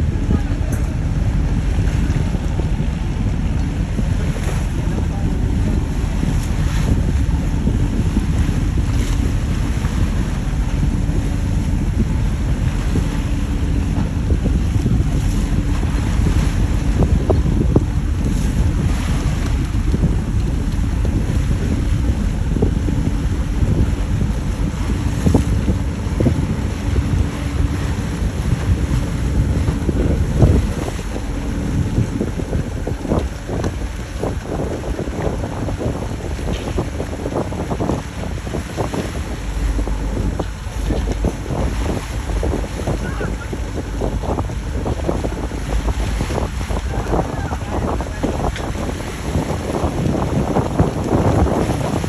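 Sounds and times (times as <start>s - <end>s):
boat engine rumble: 0.0s - 52.0s
rushing water: 0.0s - 52.0s
wind buffeting microphone: 0.0s - 52.0s.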